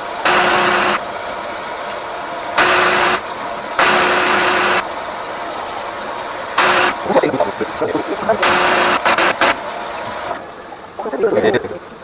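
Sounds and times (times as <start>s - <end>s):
drain cleaner motor spinning: 0.0s - 10.5s
steady low hum: 0.0s - 11.1s.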